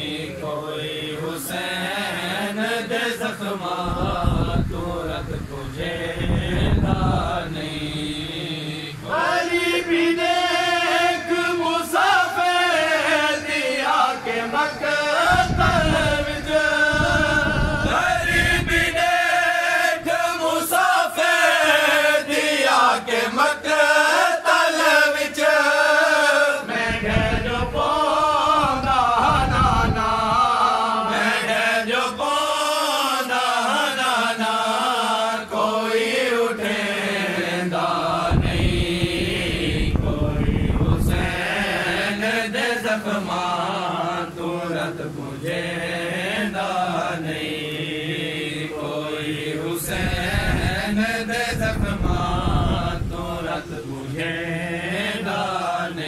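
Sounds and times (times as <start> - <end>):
man chanting unaccompanied: 0.0 - 56.0.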